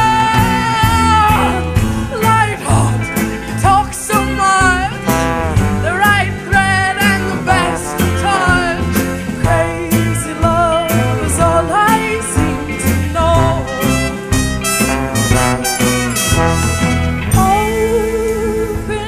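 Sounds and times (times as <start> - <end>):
live swing blues band: 0.0 - 19.0
sliding lead melody: 0.0 - 19.0.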